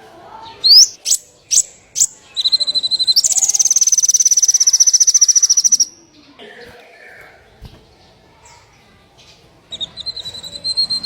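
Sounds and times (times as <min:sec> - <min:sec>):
songbird singing: 0:00.3 - 0:06.4, 0:07.9 - 0:11.0.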